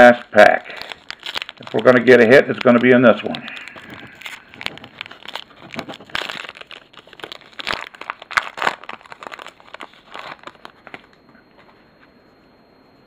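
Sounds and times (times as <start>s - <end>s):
wrapper crinkling: 0.0s - 11.1s.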